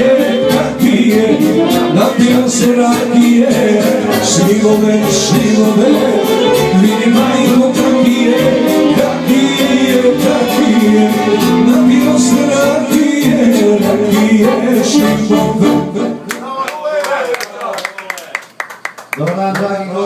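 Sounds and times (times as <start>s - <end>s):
man singing through microphone: 0.0s - 16.3s, 19.3s - 20.0s
accordion: 0.0s - 16.4s.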